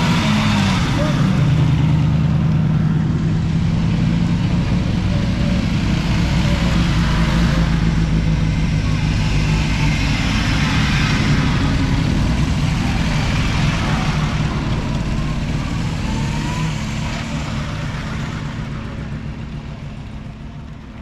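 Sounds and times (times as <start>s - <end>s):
car engines low rumble: 0.0s - 21.0s.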